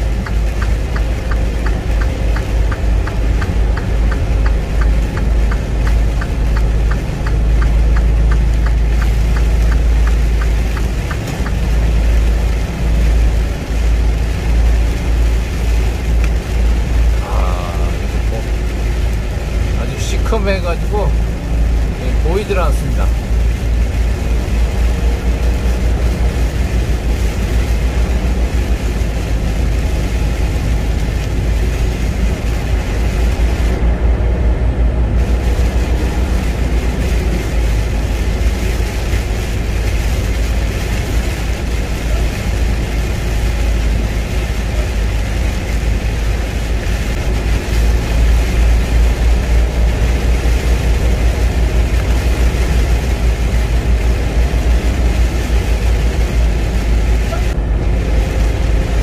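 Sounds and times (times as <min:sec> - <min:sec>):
deep truck engine drone: 0:00.0 - 0:59.0
rain: 0:00.0 - 0:59.0
tyres hissing on wet road: 0:00.0 - 0:59.0.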